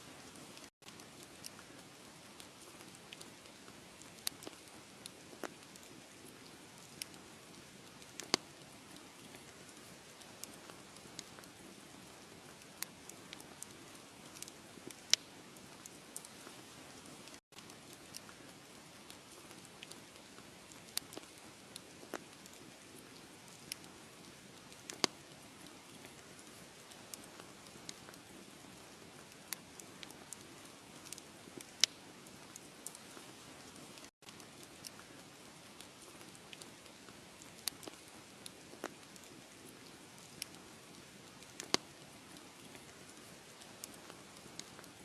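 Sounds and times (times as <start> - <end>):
wood fire crackling: 0.1 - 45.0.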